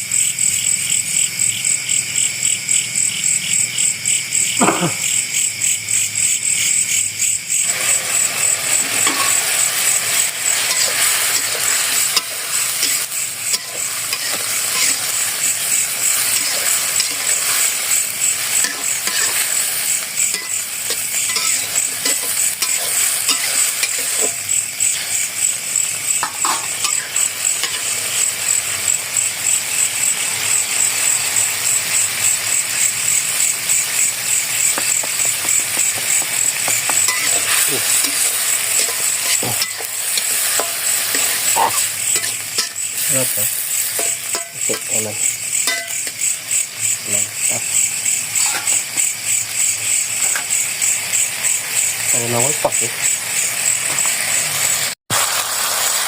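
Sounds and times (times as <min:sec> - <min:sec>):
crickets chirping: 0:00.0 - 0:55.0
food sizzling in a pan: 0:00.0 - 0:56.0.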